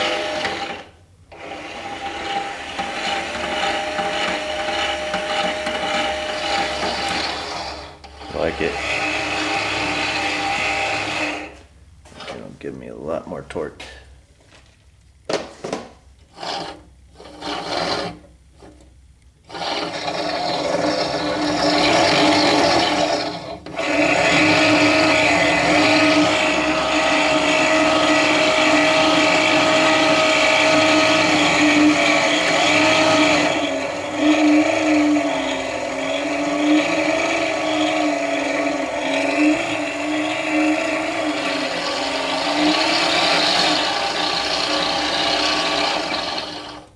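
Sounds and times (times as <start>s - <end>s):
electric motors humming: 0.0s - 12.4s, 19.4s - 46.9s.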